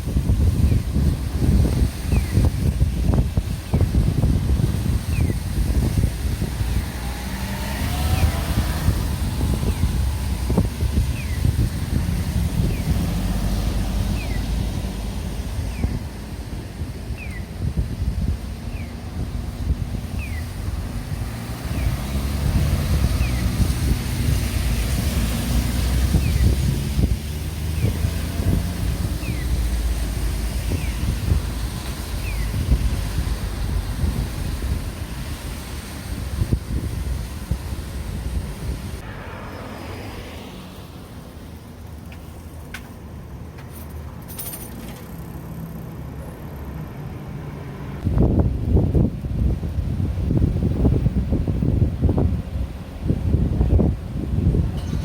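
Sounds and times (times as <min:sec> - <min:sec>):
wind buffeting microphone: 0:00.0 - 0:42.5, 0:47.9 - 0:55.0
low vehicle rumble: 0:00.0 - 0:55.0.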